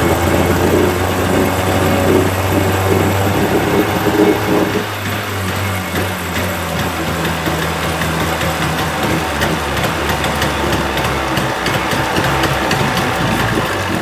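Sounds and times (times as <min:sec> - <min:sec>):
faint rapid ticking: 0:00.0 - 0:14.0
outboard motor idling: 0:00.0 - 0:14.0.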